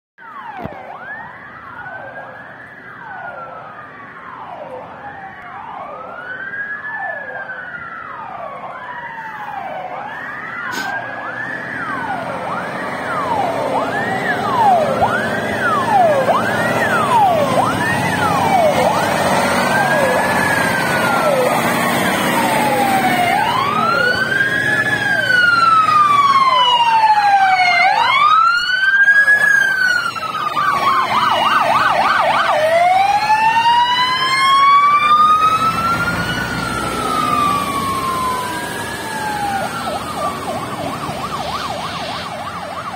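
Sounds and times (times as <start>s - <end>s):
fire engine sirens wailing: 0.2s - 42.9s
higher-pitched siren: 0.2s - 42.9s.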